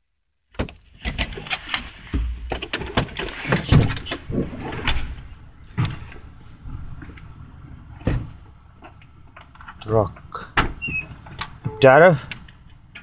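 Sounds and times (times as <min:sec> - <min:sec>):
handling clicks and rustling: 0:00.7 - 0:13.0.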